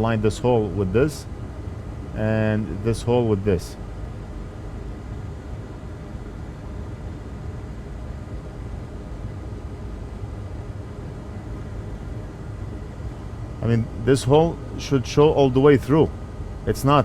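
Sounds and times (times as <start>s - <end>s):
fan humming and hissing: 0.0s - 17.0s.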